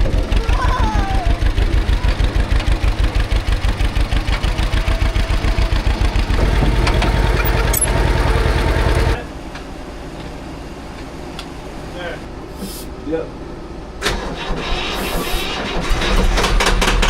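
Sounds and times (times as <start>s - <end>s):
tractor engine running: 0.0s - 12.7s, 13.4s - 17.0s.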